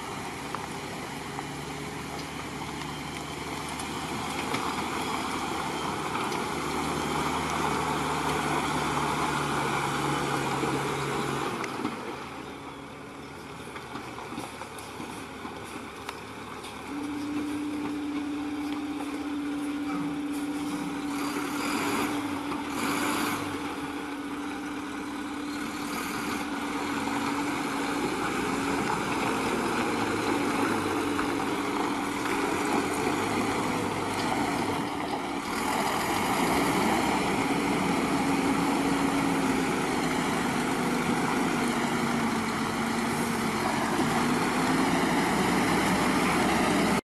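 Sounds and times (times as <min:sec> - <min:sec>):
truck diesel engine at low revs: 0:00.0 - 0:47.0.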